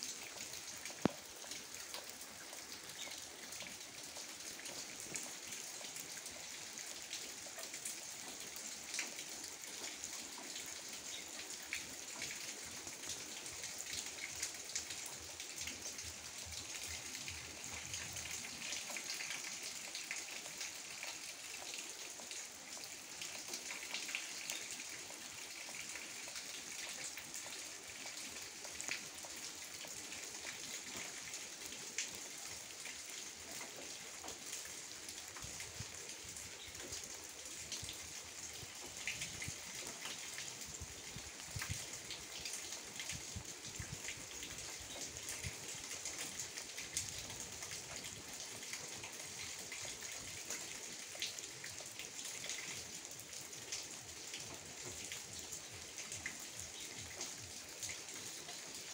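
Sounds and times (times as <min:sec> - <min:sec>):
light rain falling: 0:00.0 - 0:58.9.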